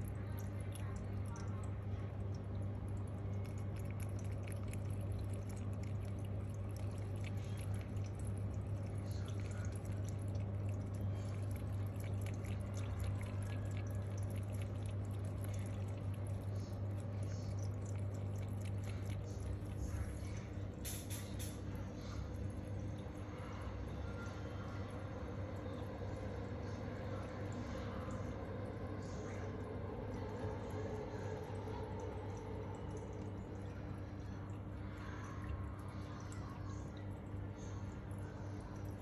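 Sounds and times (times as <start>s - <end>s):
cat lapping water: 0.0s - 39.0s
filter low hum: 0.0s - 39.0s
water trickling: 0.0s - 39.0s.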